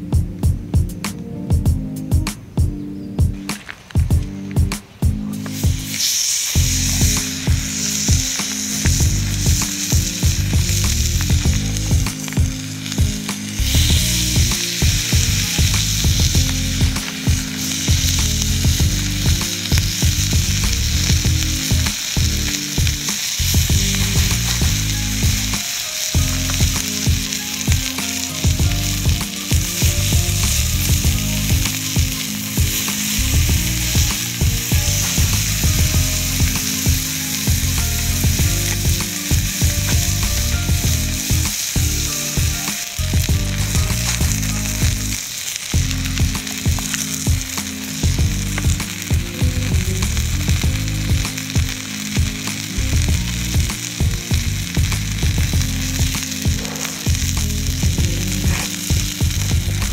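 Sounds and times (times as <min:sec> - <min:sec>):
chicken sizzling: 0:03.3 - 0:59.9.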